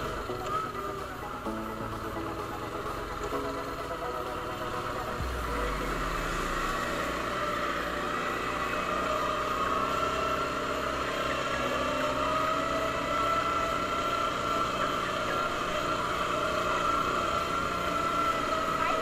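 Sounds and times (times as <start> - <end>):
atv engine running: 0.0 - 19.0
steady whine: 0.0 - 19.0.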